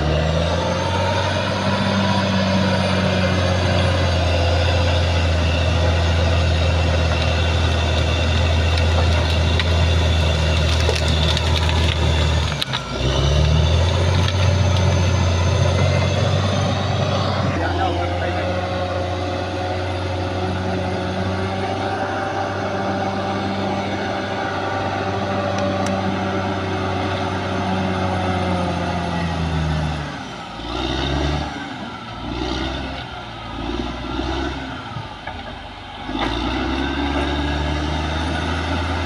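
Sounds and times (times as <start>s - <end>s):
bulldozer diesel engine running: 0.0s - 39.0s
wavering engine whine: 0.0s - 39.0s.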